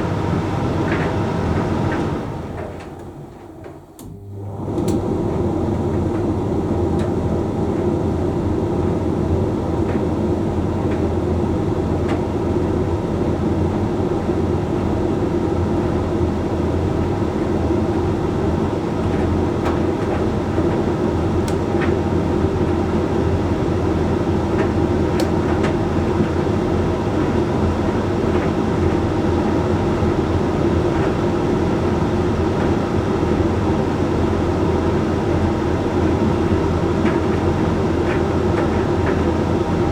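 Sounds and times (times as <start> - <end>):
tumble dryer motor hum: 0.0 - 39.9.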